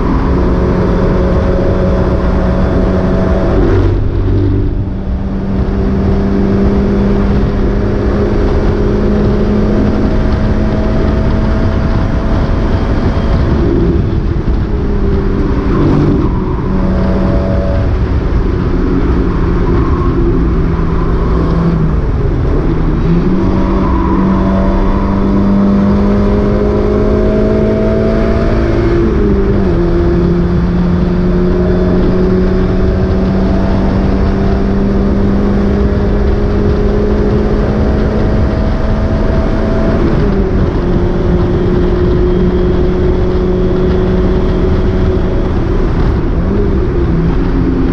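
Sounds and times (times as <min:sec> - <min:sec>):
race car engine running hard: 0:00.0 - 0:47.9.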